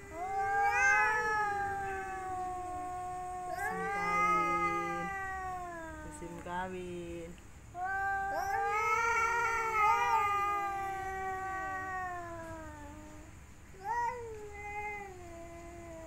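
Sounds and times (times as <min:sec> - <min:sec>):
cats yowling: 0:00.0 - 0:06.5, 0:07.8 - 0:16.0.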